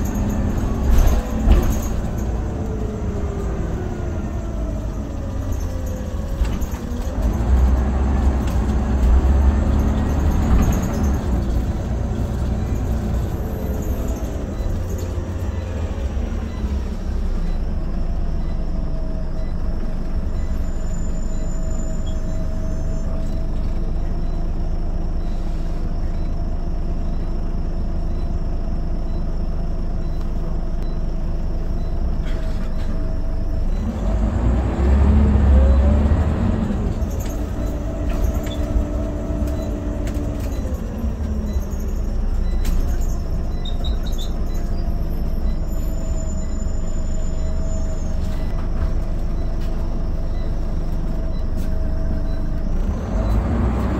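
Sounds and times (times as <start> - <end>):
bus diesel engine rumble: 0.0 - 53.9
drivetrain whine: 0.0 - 53.9.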